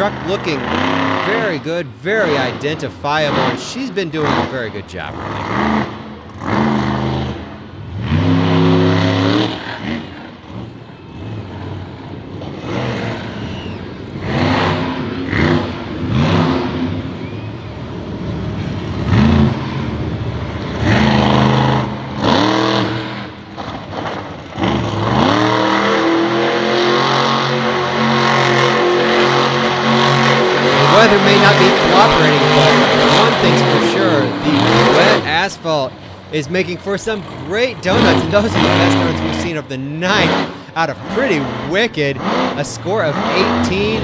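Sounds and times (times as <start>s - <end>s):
truck engine revving: 0.0s - 44.0s.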